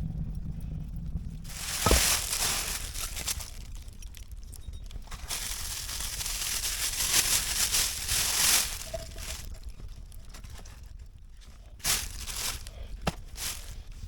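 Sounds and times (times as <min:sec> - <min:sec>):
crunching and rustling: 0:01.4 - 0:14.0.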